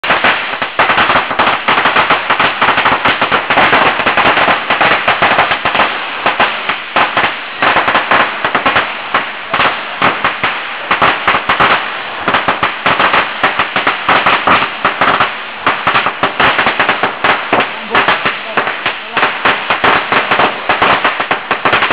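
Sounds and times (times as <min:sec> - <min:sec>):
firecrackers crackling: 0:00.0 - 0:21.9.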